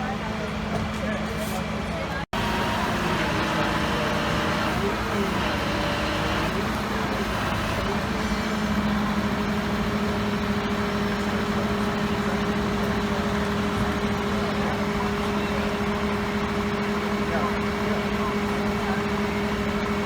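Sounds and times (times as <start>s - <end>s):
constant noisy background: 0.0s - 20.0s
large vehicle engine idling: 0.0s - 20.0s.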